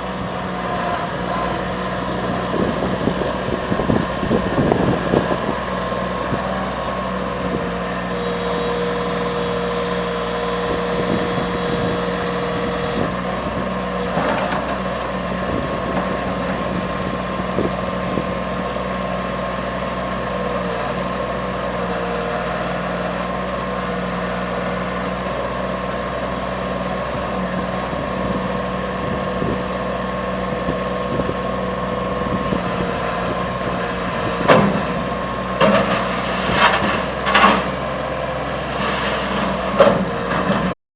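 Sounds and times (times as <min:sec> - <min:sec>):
skid steer engine running: 0:00.0 - 0:40.8.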